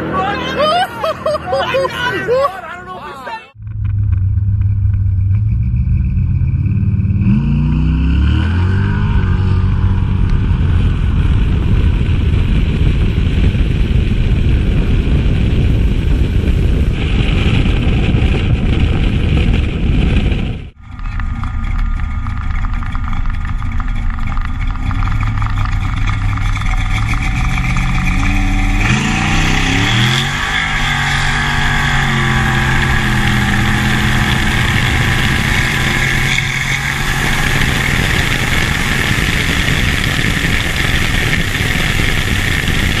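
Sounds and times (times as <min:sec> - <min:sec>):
car engine accelerating: 0:03.5 - 0:43.0
wind rushing on microphone: 0:08.4 - 0:43.0.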